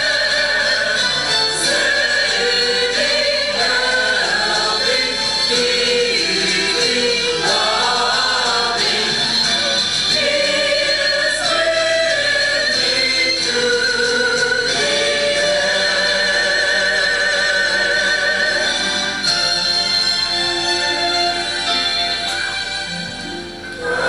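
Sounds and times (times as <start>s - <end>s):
choir singing: 0.0s - 20.1s, 23.6s - 24.0s.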